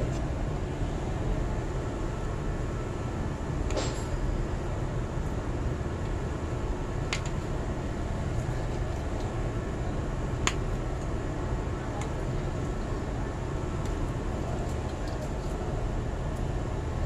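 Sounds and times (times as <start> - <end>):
machinery rumbling: 0.0 - 17.0.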